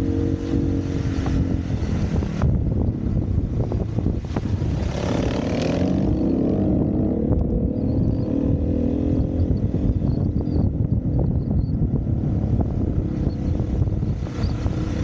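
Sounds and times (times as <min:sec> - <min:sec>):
dirt bike engine droning: 0:00.0 - 0:15.0.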